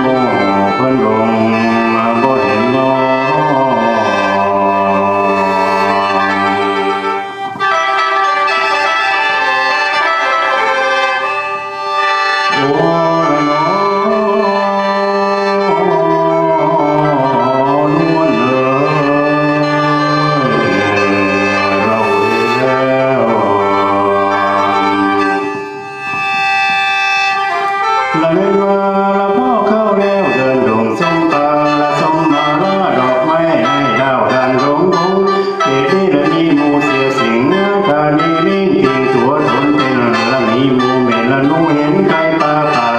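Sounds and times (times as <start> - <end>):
man singing: 0.0 - 7.3, 12.4 - 25.7, 28.0 - 42.9
bamboo mouth organ playing: 0.0 - 42.9.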